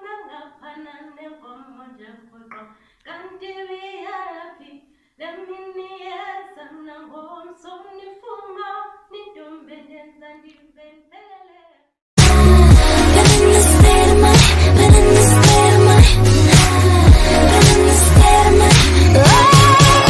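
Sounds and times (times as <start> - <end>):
woman singing unaccompanied: 0.0 - 20.0.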